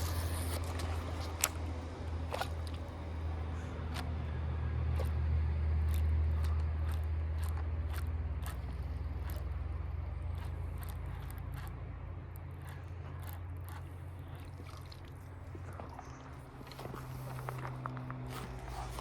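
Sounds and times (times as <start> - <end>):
small boat motor humming: 0.0 - 19.0.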